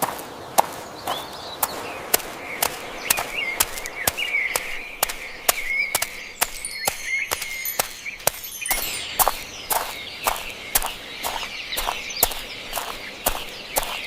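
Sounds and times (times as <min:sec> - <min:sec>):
birds chirping: 0:00.0 - 0:14.0
footsteps: 0:00.0 - 0:14.0.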